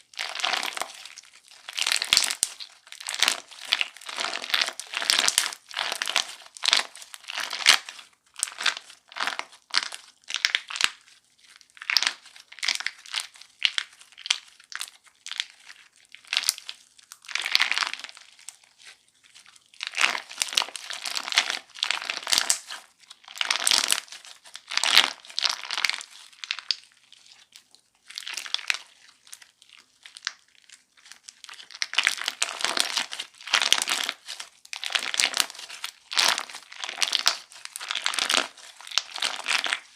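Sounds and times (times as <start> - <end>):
crunchy slime squeezed by hand: 0.1 - 39.9.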